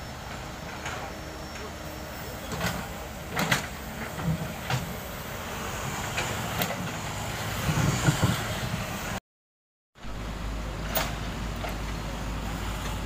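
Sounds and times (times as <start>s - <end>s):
excavator diesel engine running: 0.0s - 9.2s, 10.1s - 13.0s.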